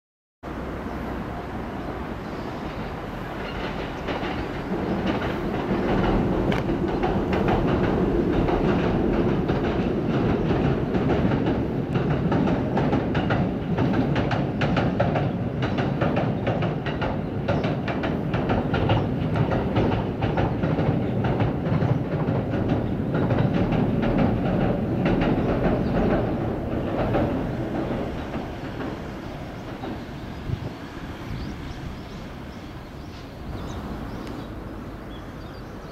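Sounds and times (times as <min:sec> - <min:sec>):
electric train rumbling on bridge: 0:00.4 - 0:35.9
train wheel clacks: 0:01.6 - 0:35.9.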